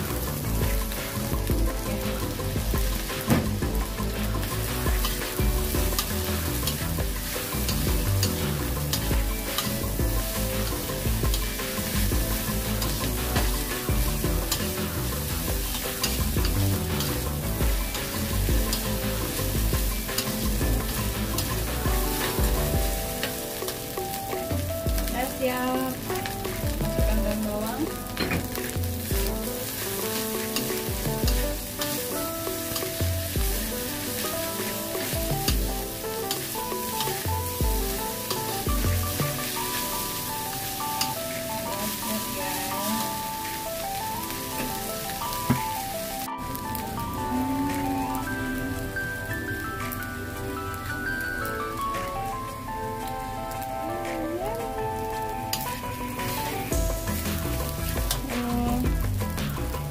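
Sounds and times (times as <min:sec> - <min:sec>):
background music with bass: 0:00.0 - 0:59.9
frying sizzle: 0:00.0 - 0:59.9.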